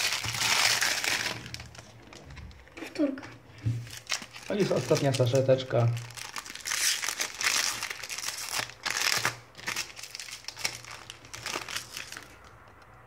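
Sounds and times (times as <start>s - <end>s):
foil wrapper crinkling: 0.0s - 3.1s, 3.8s - 12.5s.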